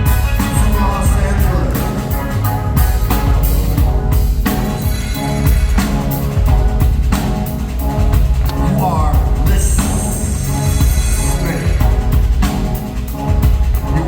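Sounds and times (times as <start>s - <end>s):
bass drum and snare hits: 0.0s - 14.0s
live band playing: 0.0s - 14.0s
sustained bass notes: 0.0s - 14.0s.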